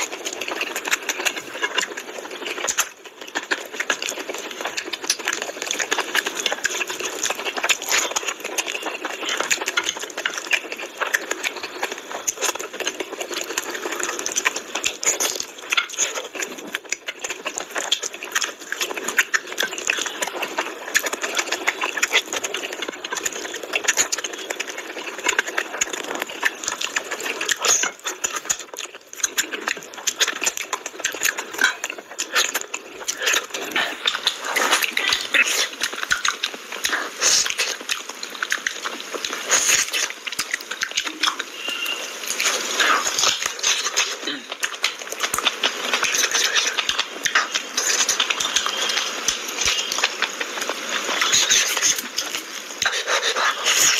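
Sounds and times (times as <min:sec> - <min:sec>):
chewing and mouth smacking: 0:00.0 - 0:53.9
wet squelching of rice: 0:00.0 - 0:53.9.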